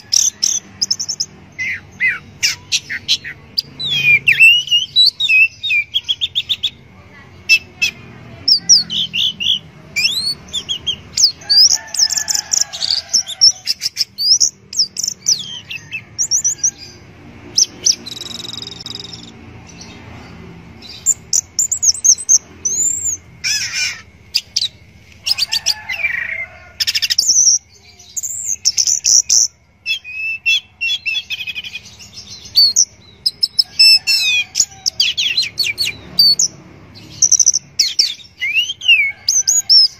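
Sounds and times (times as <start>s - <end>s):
thrush singing: 7.5s - 39.9s.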